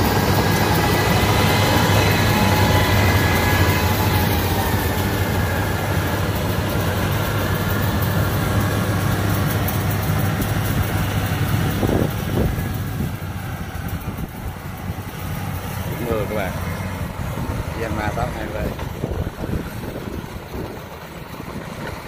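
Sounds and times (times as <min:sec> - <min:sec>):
combine harvester engine hum: 0:00.0 - 0:22.0.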